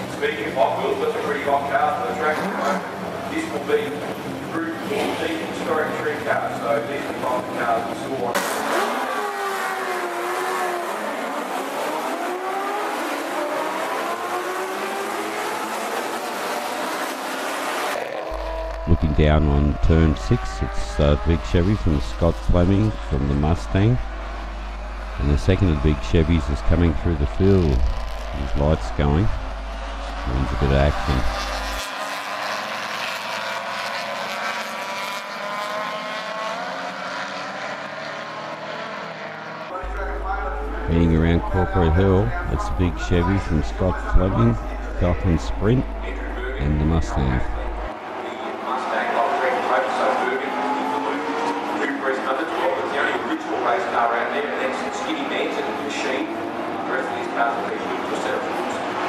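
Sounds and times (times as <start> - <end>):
race car engines passing by: 0.0 - 59.0.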